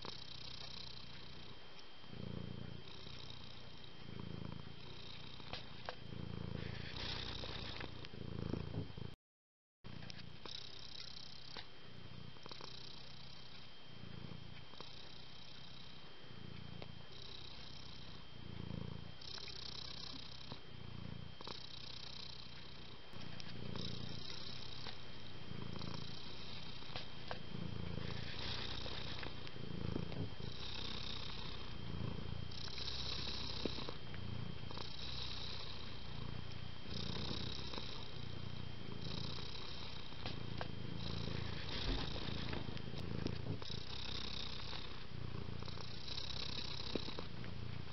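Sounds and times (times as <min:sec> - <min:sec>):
cat purring: 0:00.0 - 0:09.2, 0:09.9 - 0:47.9.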